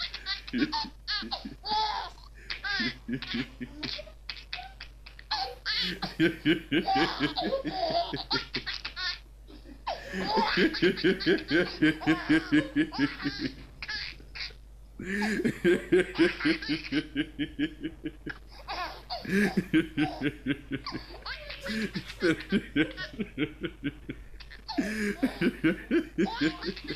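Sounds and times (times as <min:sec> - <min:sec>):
man laughing hard: 0:00.0 - 0:01.7, 0:02.4 - 0:04.0, 0:05.8 - 0:08.7, 0:09.6 - 0:13.7, 0:15.0 - 0:18.4, 0:19.1 - 0:26.9.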